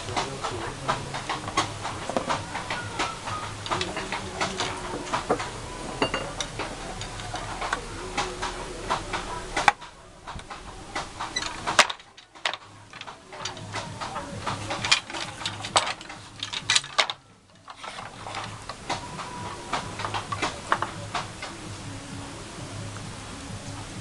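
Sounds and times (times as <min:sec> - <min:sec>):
loud wooden knocks: 0:00.0 - 0:21.6
wooden loom clacking: 0:00.0 - 0:22.0.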